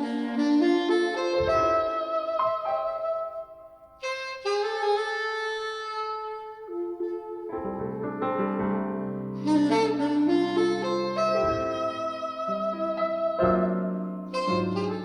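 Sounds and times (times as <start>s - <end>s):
piano accompaniment: 0.0s - 15.0s
soprano saxophone long notes: 0.0s - 15.0s.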